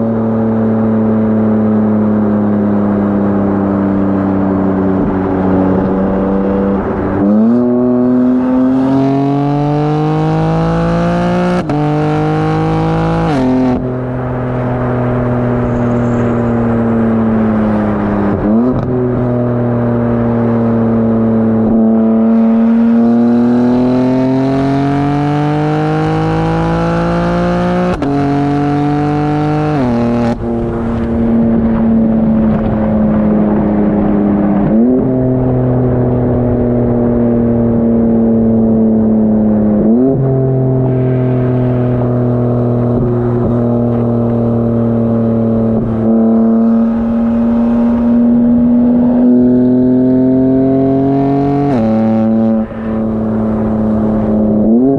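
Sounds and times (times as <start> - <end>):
car engine accelerating through gears: 0.0 - 54.9.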